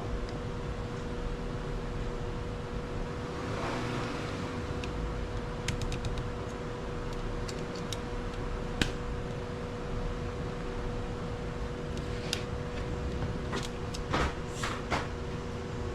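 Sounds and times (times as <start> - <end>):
steady hum: 0.0 - 15.9.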